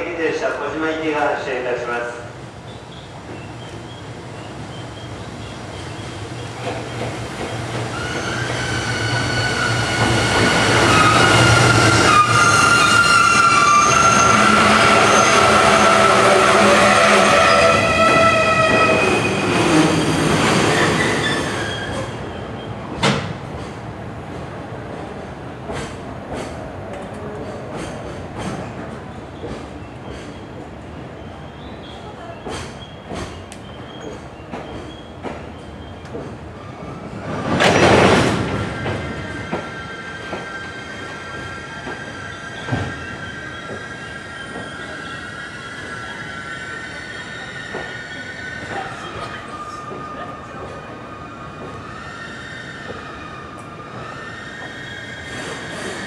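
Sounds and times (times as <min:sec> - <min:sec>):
freight train rolling on rails: 0:00.0 - 0:56.0
train wheel squeal: 0:02.7 - 0:22.8, 0:27.3 - 0:56.0.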